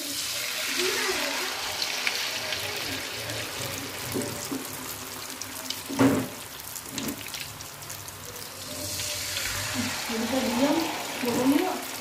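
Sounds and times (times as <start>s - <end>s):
deep-frying sizzle: 0.0s - 12.0s.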